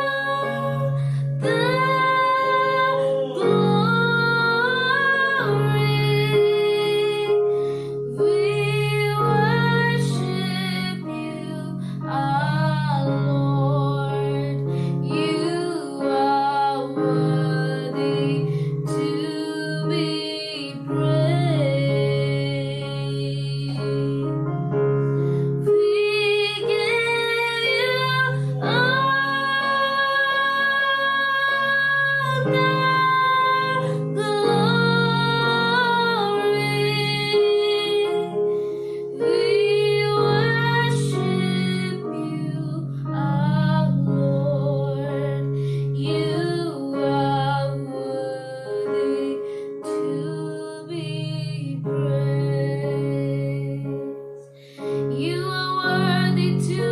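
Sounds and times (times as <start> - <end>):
woman singing worship song: 0.0 - 24.4, 25.6 - 56.9.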